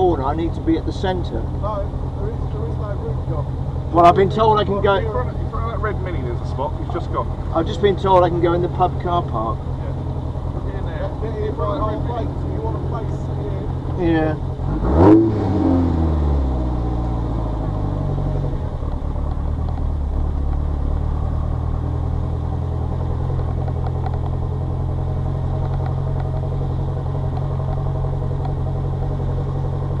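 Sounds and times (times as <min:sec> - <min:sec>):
car engine running at low revs: 0:00.0 - 0:30.0.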